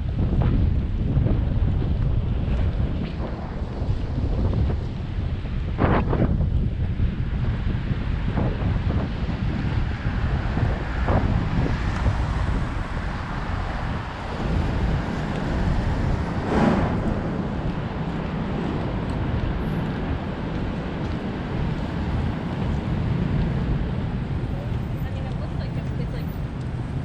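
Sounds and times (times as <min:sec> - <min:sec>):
road and engine rumble: 0:00.0 - 0:27.0
wind over microphone: 0:00.0 - 0:27.0.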